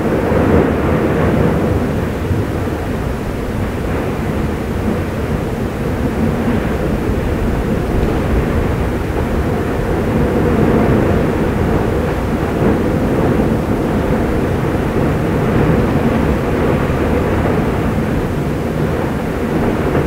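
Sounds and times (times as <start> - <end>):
lava surging and fountaining: 0.0 - 20.0
volcano rumbling: 0.0 - 20.0.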